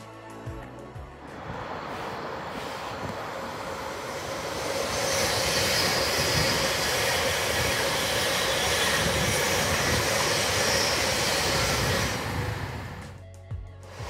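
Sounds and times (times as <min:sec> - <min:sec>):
train passing on rails: 0:00.9 - 0:13.2.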